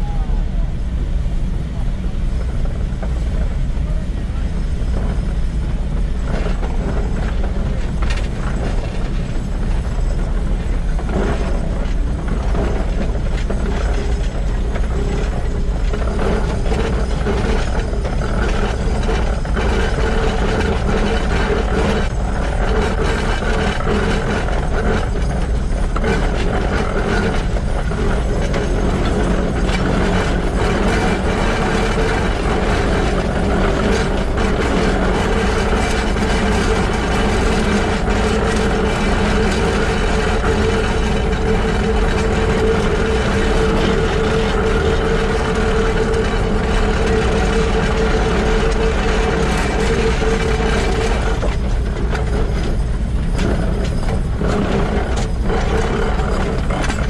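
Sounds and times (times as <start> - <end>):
steady hum: 0.0 - 57.0
locomotive gears clattering: 1.7 - 57.0.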